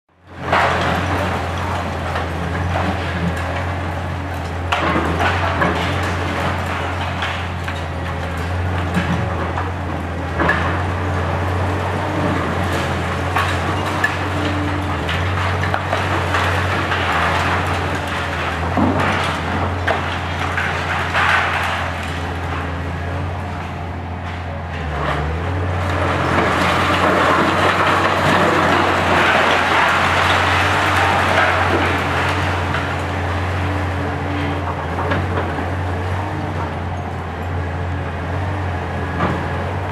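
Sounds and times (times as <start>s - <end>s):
diesel engine droning: 0.1s - 39.9s
concrete breaking and debris falling: 0.3s - 23.9s, 24.8s - 36.8s.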